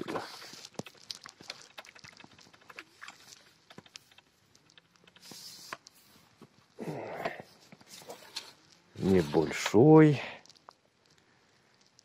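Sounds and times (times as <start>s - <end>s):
light clicks and crackles: 0.0s - 12.0s.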